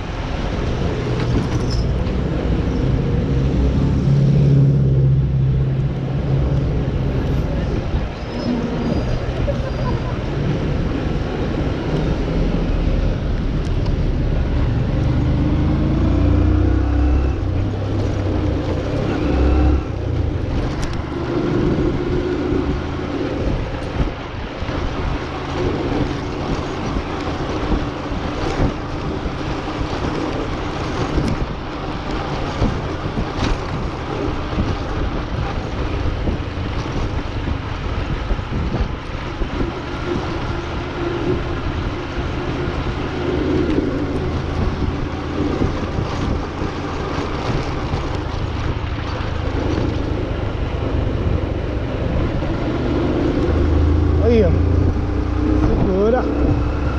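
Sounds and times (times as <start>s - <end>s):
road noise: 0.0s - 56.9s
vehicle engine: 0.0s - 56.9s
wind on microphone: 0.0s - 56.9s.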